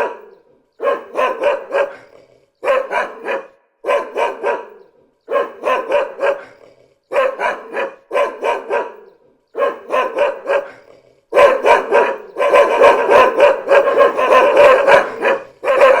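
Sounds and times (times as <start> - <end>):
dog barking: 0.0 - 16.0.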